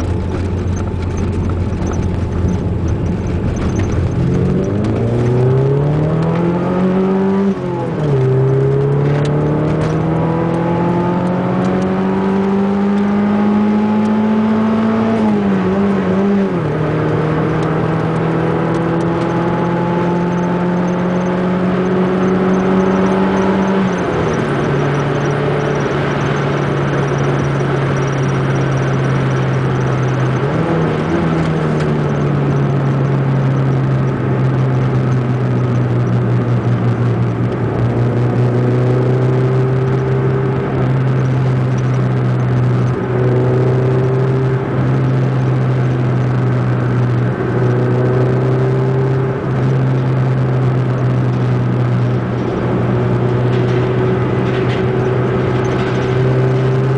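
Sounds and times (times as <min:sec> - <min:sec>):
car engine running: 0:00.0 - 0:56.9.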